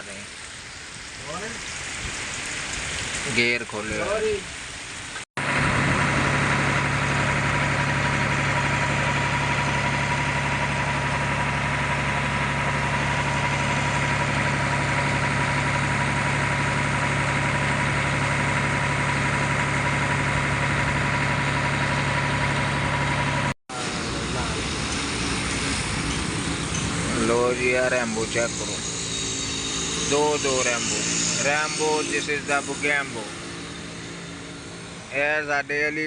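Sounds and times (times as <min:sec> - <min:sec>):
diesel engine idling: 0:05.4 - 0:36.0.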